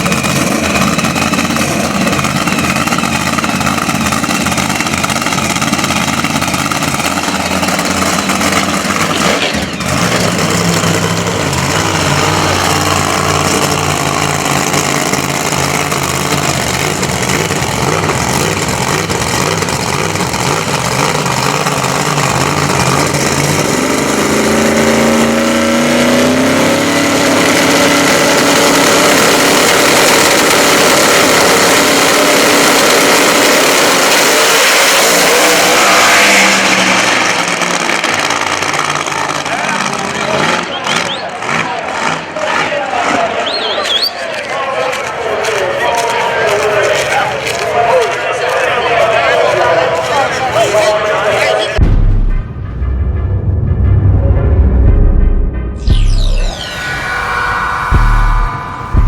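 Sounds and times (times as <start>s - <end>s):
race car engine revving: 0.0s - 44.0s, 48.6s - 59.0s.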